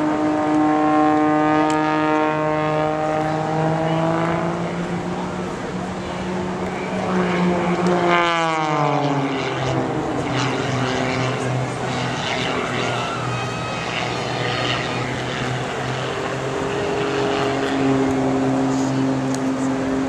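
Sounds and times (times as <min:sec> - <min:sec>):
propeller plane droning: 0:00.0 - 0:20.0.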